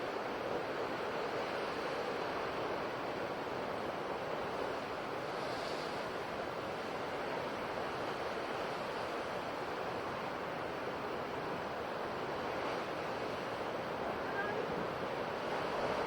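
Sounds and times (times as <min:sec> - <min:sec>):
ocean surf: 0:00.0 - 0:16.0.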